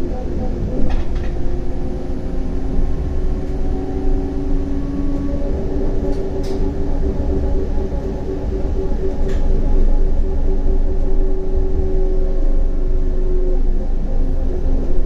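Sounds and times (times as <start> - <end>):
tram wheels rumbling: 0.0 - 15.0.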